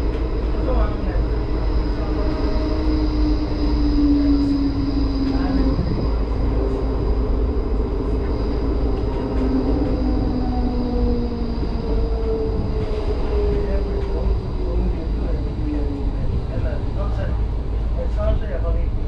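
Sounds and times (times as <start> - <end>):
tram wheels rumbling: 0.0 - 19.0.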